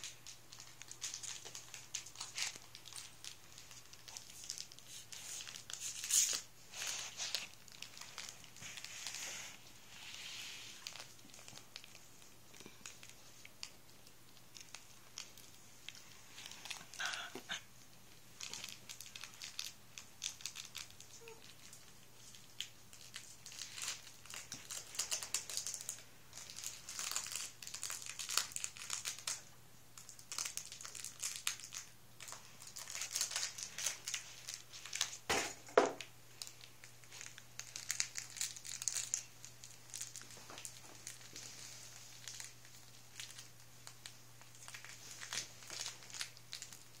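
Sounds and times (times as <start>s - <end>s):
crinkling and rustling: 0.0s - 47.0s.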